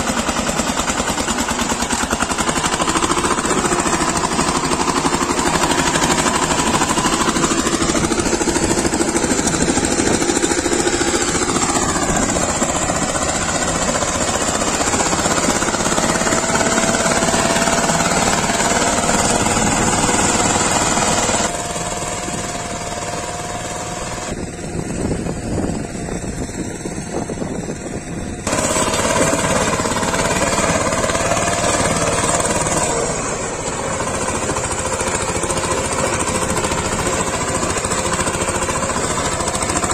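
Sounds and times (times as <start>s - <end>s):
diesel engine running under load: 0.0s - 39.9s
tiller blades churning soil: 0.0s - 39.9s.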